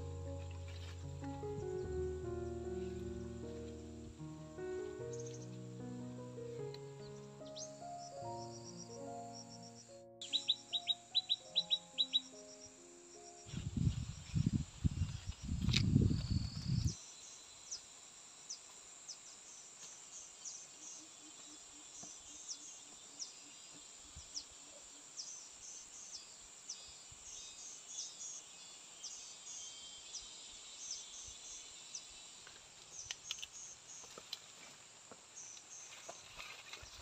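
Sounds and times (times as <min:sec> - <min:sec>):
birds and insects chirping: 0:00.0 - 0:37.0
soft steady hiss: 0:00.0 - 0:37.0.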